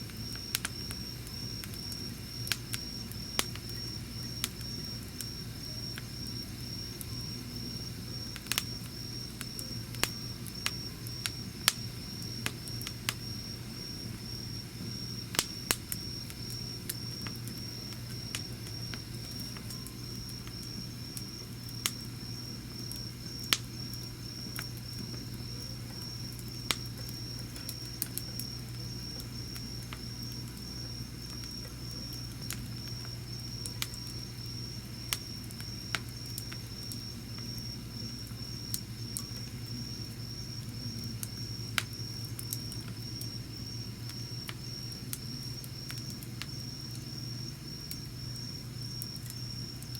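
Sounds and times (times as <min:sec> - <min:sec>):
campfire crackling and popping: 0:00.0 - 0:49.9
insect chirping: 0:00.1 - 0:49.9.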